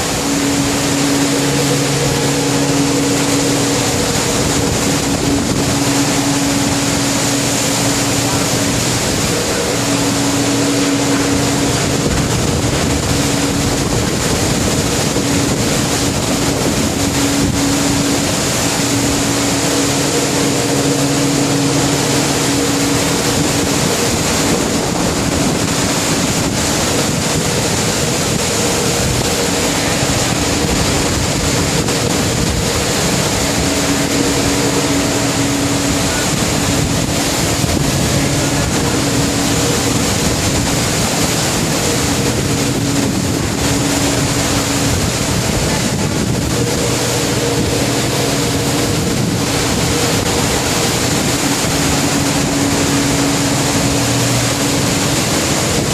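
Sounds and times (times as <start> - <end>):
heavy sea: 0.0 - 55.9
low engine hum: 0.0 - 55.9
wind rushing: 0.0 - 55.9.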